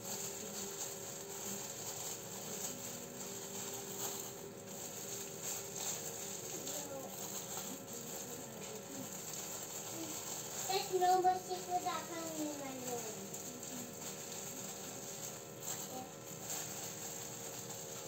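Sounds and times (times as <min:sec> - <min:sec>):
gloved hands patting rice: 0:00.0 - 0:18.0.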